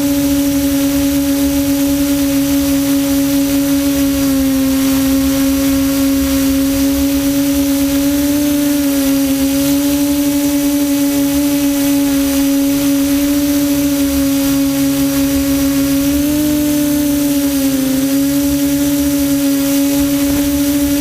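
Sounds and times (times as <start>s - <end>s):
drone motors humming: 0.0s - 21.0s.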